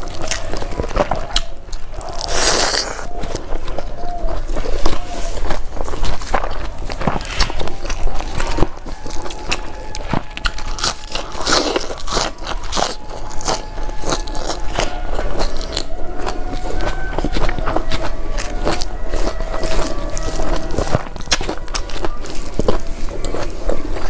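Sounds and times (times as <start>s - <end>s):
chewing and crunching food: 0.0s - 24.0s
wet mouth sounds: 0.2s - 24.0s.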